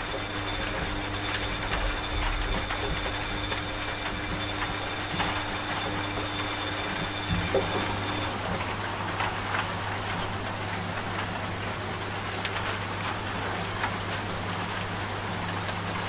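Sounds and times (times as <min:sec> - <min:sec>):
steady rain falling: 0:00.0 - 0:16.0
washing machine hum: 0:00.0 - 0:16.0.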